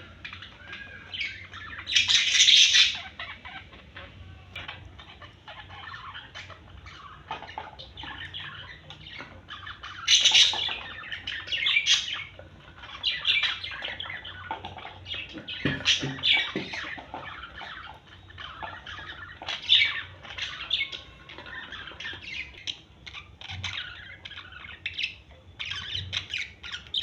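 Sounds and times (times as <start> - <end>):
parrots chattering and squawking: 0.0 - 27.0.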